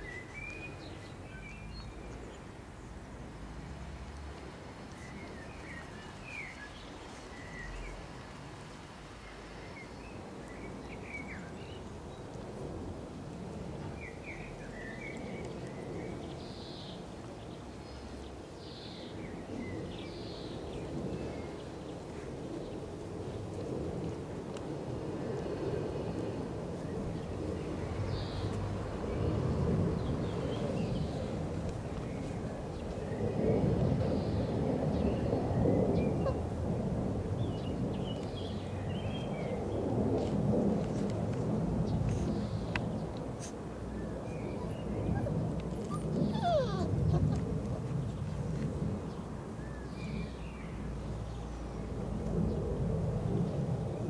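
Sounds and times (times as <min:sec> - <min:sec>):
low outdoor background noise: 0:00.0 - 0:54.0.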